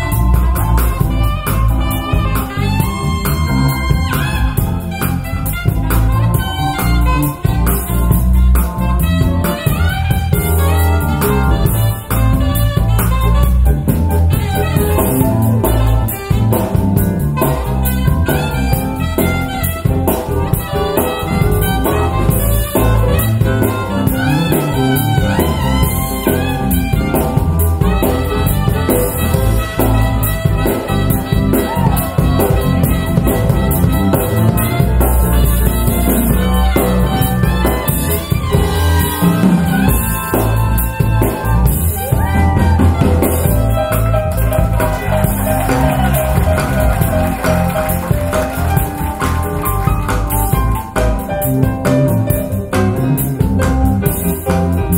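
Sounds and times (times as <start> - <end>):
instrumental music with drums and brass: 0.0 - 54.9.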